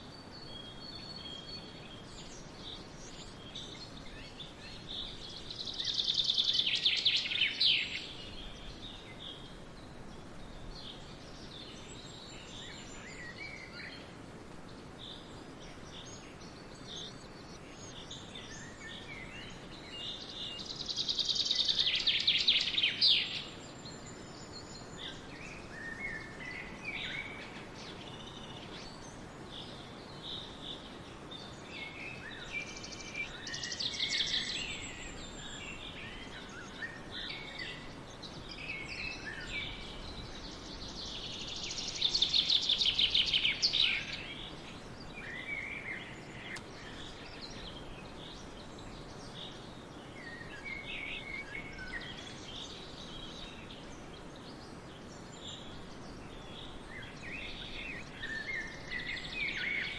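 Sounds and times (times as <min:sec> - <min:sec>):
soft bird chirps: 0:00.0 - 0:59.9
songbirds singing: 0:00.0 - 0:59.9
steady background hiss: 0:00.0 - 0:59.9.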